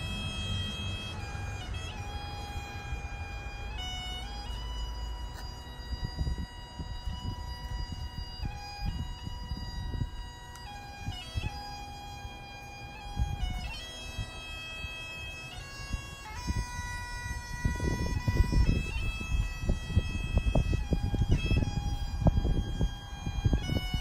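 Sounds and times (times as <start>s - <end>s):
bagpipes playing slow melody: 0.0s - 24.0s
low gusty rumble: 0.0s - 24.0s.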